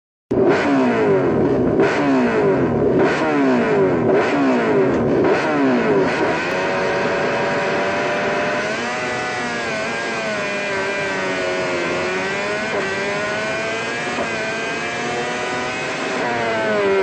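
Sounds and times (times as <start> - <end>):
racing engine revving: 0.3 - 17.0.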